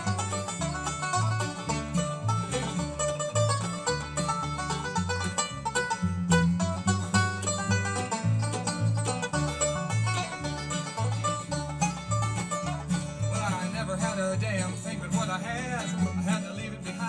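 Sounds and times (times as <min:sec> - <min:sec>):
banjo picking rapid runs: 0:00.0 - 0:17.0
strummed guitar: 0:00.0 - 0:17.0
walking bass line: 0:00.0 - 0:17.0.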